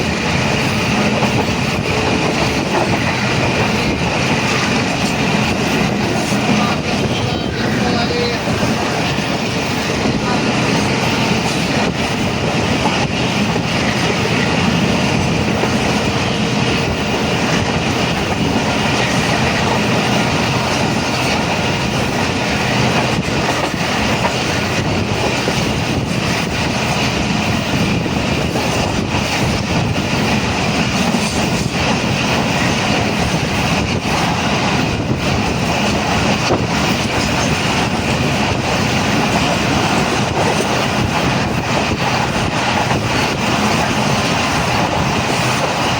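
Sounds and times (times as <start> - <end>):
train rumbling on track: 0.0 - 45.9.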